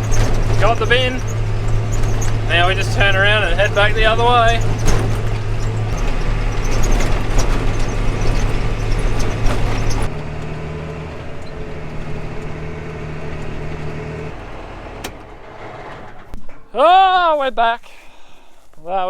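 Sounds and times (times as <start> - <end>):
rattles and knocks from rough ride: 0.0 - 18.6
tractor engine running: 0.0 - 19.0.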